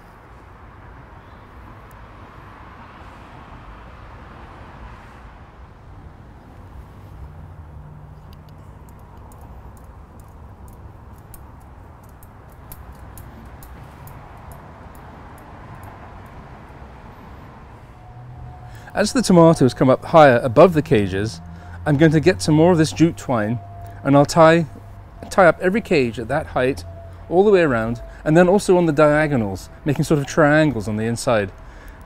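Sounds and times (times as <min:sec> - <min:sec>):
outdoor background rumble: 0:00.0 - 0:32.0.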